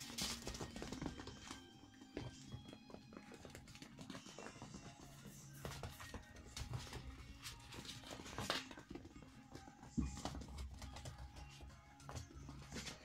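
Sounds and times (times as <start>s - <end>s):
faint background music: 0.0s - 13.0s
paws and toys clicking on wooden floor: 0.0s - 13.0s.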